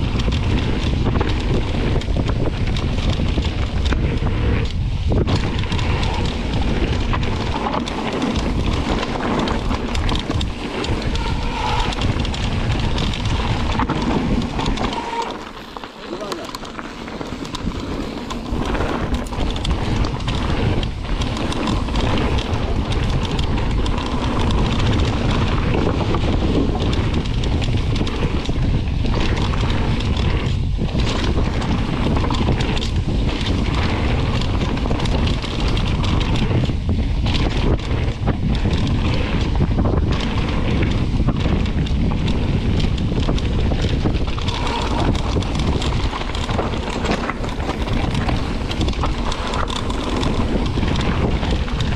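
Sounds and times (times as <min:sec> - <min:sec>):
tyres rolling over gravel: 0:00.0 - 0:51.9
wind buffeting microphone: 0:00.0 - 0:51.9.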